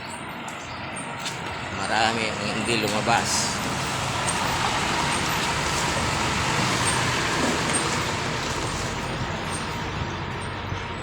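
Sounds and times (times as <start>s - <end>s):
road traffic hiss: 0.0s - 11.0s
bus engine running: 0.1s - 11.0s.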